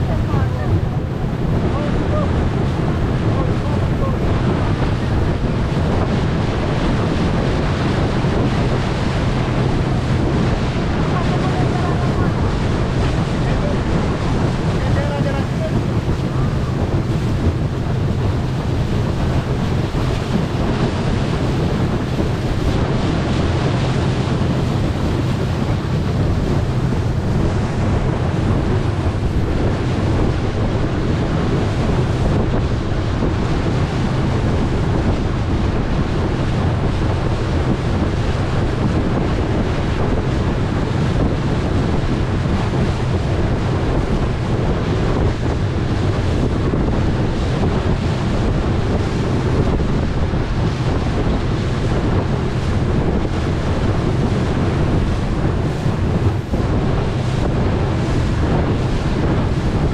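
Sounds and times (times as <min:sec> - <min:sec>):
boat engine drone: 0:00.0 - 0:59.9
rushing water: 0:00.0 - 0:59.9
wind on microphone: 0:00.0 - 0:59.9.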